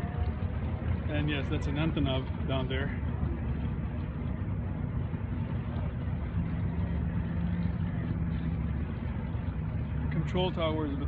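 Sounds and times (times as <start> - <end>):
low rumble of engines: 0.0 - 11.0
steady engine note: 0.0 - 11.0.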